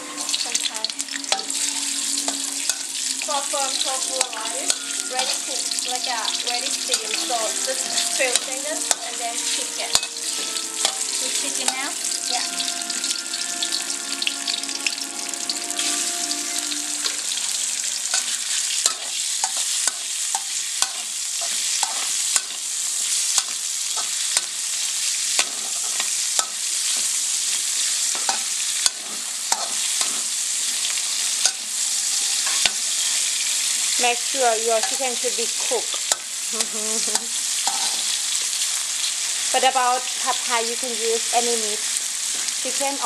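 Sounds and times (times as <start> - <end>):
metal spatula scraping a wok: 0.0 - 36.4, 37.0 - 39.5
food sizzling in hot oil: 0.0 - 43.0.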